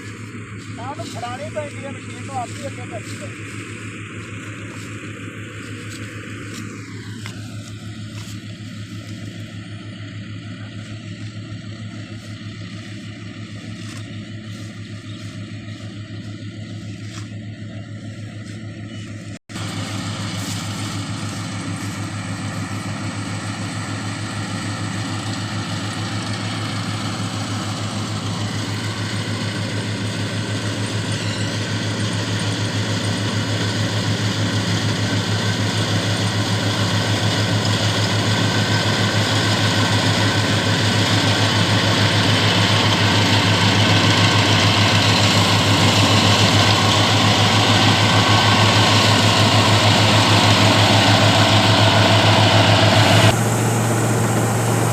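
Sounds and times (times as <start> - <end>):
cutting and threshing noise: 0.0 - 9.7, 10.6 - 54.9
combine harvester engine hum: 0.0 - 54.9.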